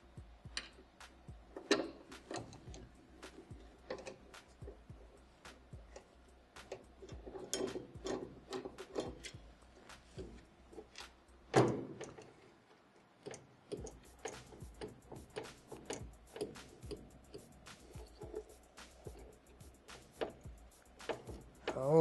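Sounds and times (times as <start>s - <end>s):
screwdriver clicks on metal parts: 0.6s - 4.8s, 5.5s - 12.4s, 13.2s - 21.9s.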